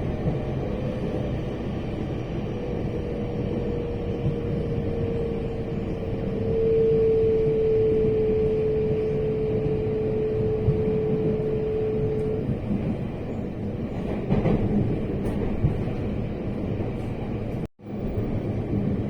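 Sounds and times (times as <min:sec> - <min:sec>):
train rumbling: 0:00.0 - 0:19.0
train whine: 0:00.0 - 0:19.0.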